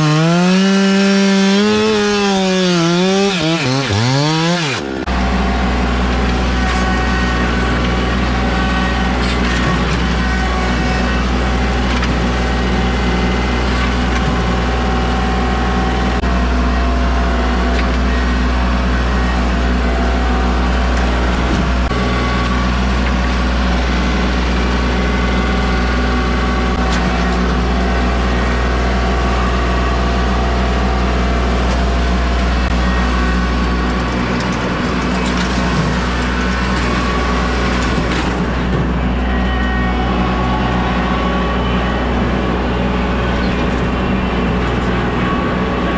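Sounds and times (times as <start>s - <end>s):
engine droning steadily: 0.0s - 45.9s.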